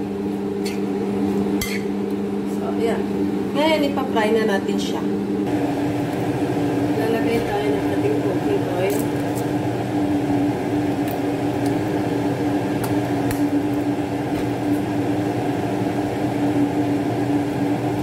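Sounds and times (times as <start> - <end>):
fan motor humming: 0.0 - 18.0.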